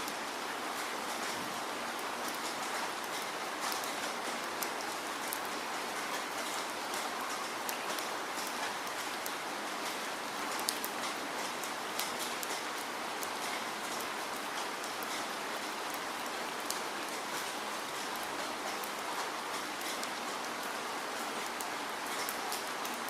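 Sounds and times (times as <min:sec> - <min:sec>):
raindrops ticking on a surface: 0:00.0 - 0:23.0
steady falling rain: 0:00.0 - 0:23.0.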